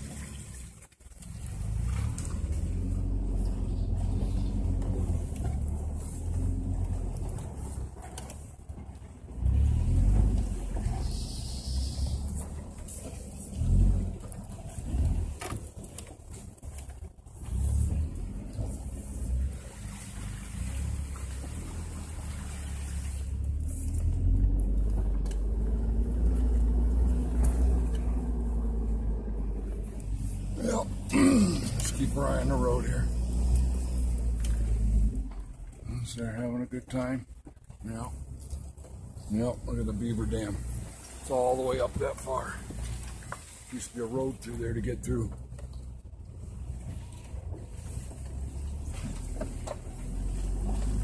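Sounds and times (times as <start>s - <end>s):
off-road vehicle engine revving: 0.0s - 51.0s.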